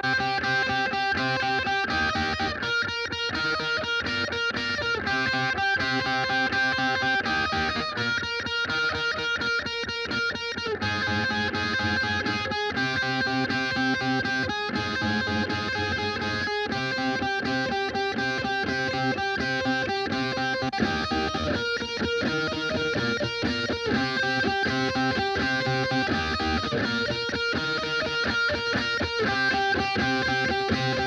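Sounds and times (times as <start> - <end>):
distorted electric guitar chords: 0.0 - 31.0.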